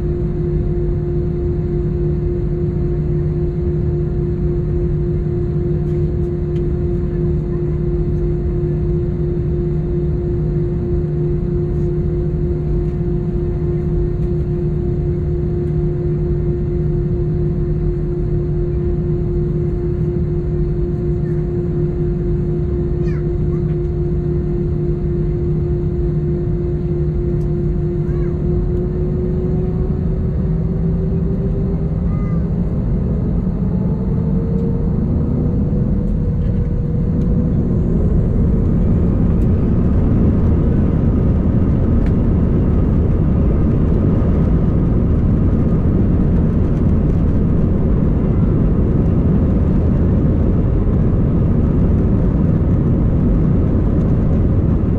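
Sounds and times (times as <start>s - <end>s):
jet engines humming: 0.0s - 54.9s
rough engine rumble: 0.0s - 54.9s.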